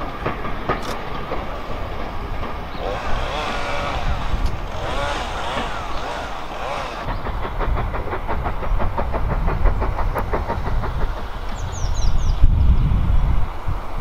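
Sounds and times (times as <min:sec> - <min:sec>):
steam locomotive exhaust beats: 0:00.0 - 0:14.0
train rumbling: 0:00.0 - 0:14.0.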